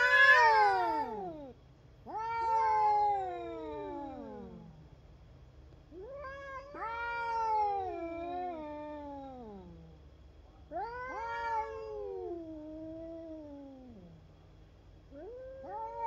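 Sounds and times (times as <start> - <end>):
cat yowling: 0.0 - 4.8, 6.0 - 9.8, 10.7 - 14.1, 15.1 - 16.0.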